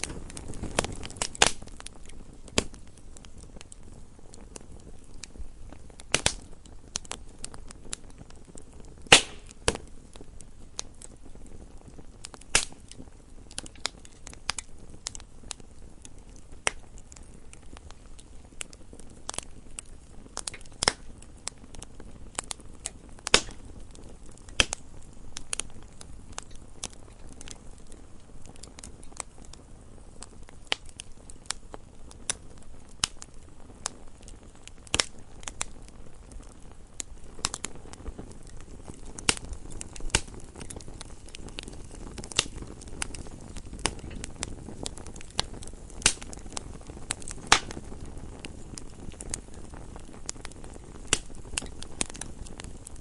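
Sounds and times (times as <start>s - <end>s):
low rush of flames: 0.0s - 53.0s
wood fire crackling and popping: 0.0s - 53.0s.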